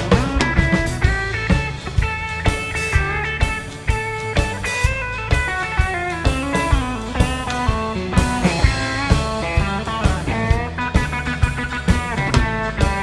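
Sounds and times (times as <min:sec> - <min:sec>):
lead guitar melody: 0:00.0 - 0:13.0
live rock band: 0:00.0 - 0:13.0.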